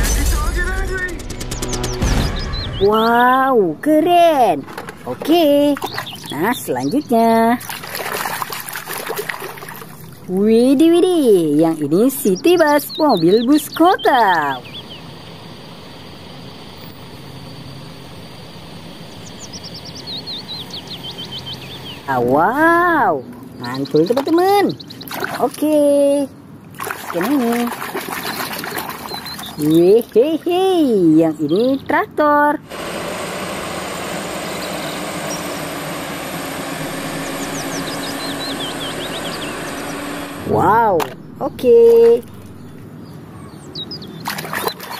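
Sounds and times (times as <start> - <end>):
birds chirping: 0.0 - 32.8, 33.4 - 44.9
diesel bus engine humming: 2.6 - 25.0, 30.6 - 44.2.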